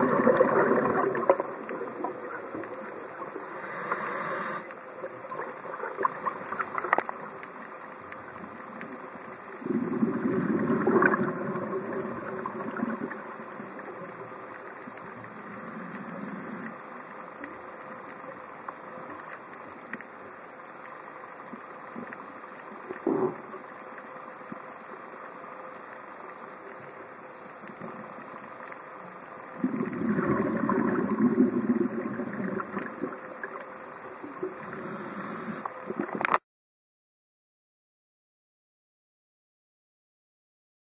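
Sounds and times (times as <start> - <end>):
underwater exhaled bubbles: 0.0 - 20.0, 21.4 - 36.4
steady hiss: 1.4 - 36.2.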